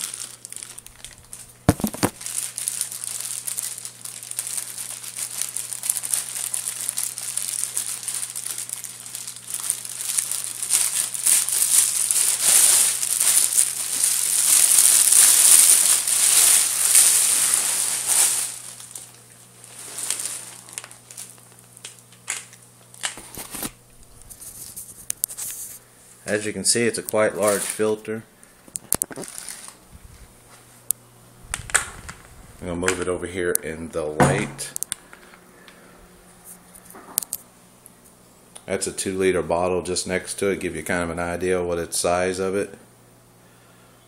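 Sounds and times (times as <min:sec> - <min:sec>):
plastic wrapping crinkling: 0:00.0 - 0:38.0.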